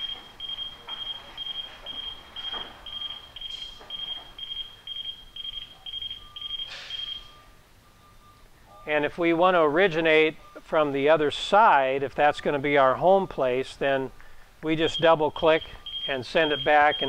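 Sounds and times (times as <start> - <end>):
conveyor warning beeper: 0.0 - 11.6, 14.8 - 17.0.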